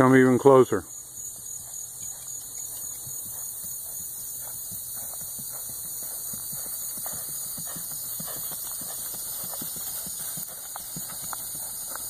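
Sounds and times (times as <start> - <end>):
steady high-pitched hiss: 0.0 - 12.0
horse hoofbeats on grass: 1.1 - 12.0.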